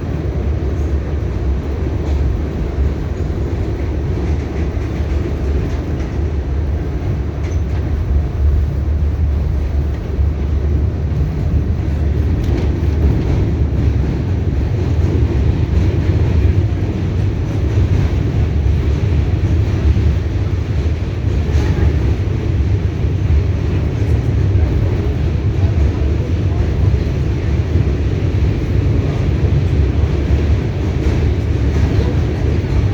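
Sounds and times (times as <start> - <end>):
train wheels rumbling on rails: 0.0 - 32.9.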